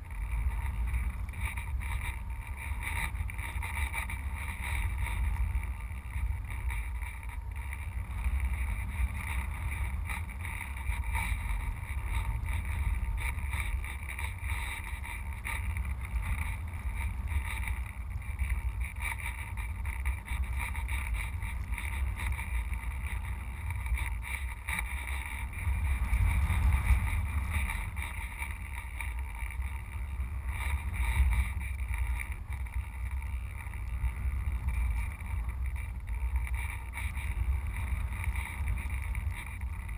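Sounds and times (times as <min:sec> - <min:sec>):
wind buffeting camera: 0:00.0 - 0:39.9.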